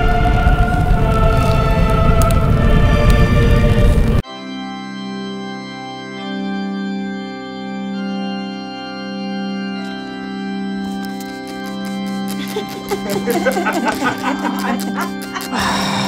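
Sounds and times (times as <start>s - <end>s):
slow organ music: 0.0s - 16.0s.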